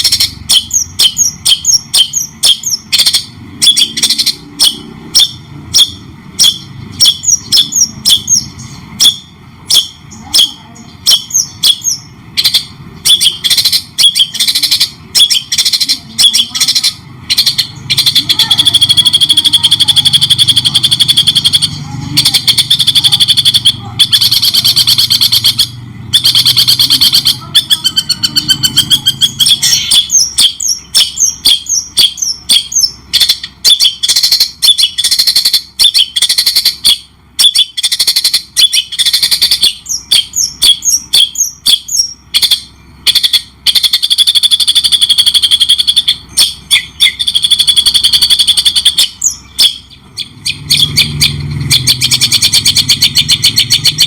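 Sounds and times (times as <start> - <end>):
songbird trilling and chirping: 0.0 - 54.0.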